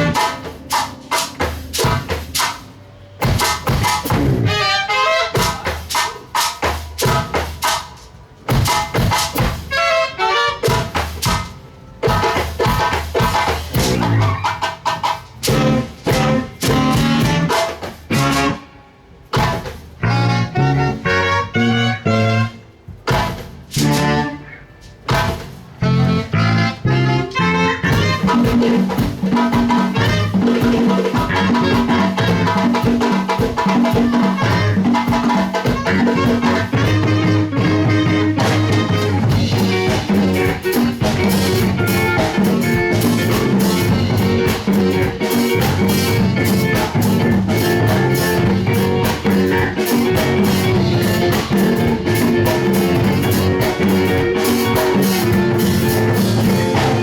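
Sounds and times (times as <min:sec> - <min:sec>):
drum kit: 0:00.0 - 0:20.6, 0:22.5 - 0:57.0
live band playing dance music: 0:00.0 - 0:57.0.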